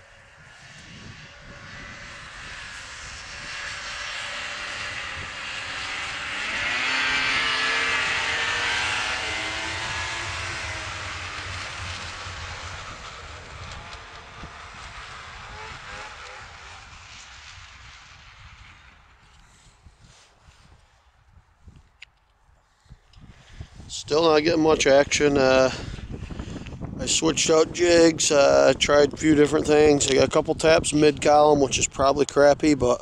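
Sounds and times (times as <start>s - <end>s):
airplane engine drone: 0.0s - 21.2s, 22.6s - 33.0s.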